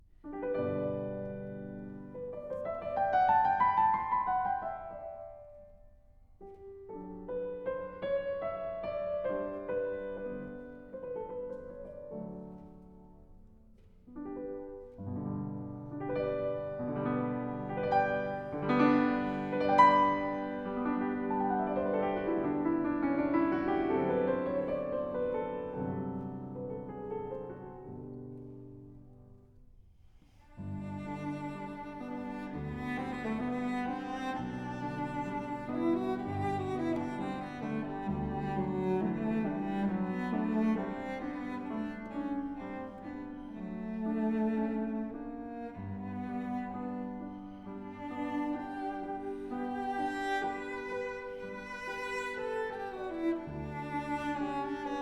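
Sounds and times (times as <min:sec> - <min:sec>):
solo piano music: 0:00.0 - 0:29.8, 0:30.5 - 0:55.0.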